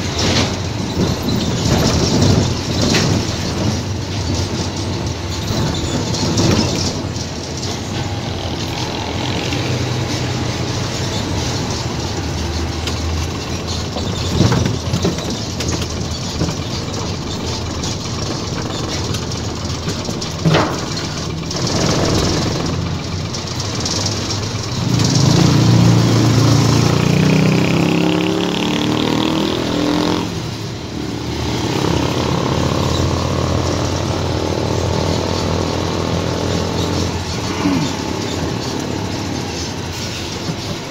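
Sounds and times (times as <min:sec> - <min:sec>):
diesel truck engine: 0:00.0 - 0:40.9
road noise: 0:00.0 - 0:40.9.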